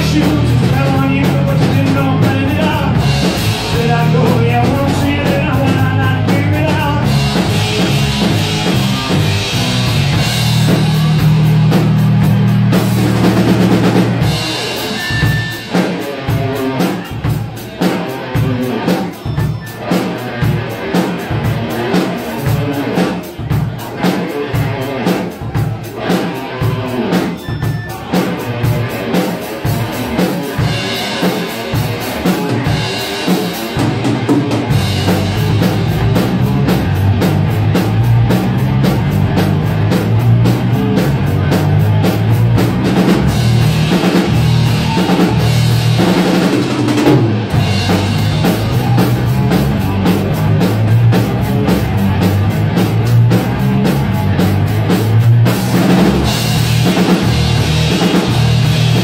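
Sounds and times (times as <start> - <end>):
drum kit: 0.0 - 59.0
heavy bass: 0.0 - 59.0
live rock band instrumental: 0.0 - 59.0.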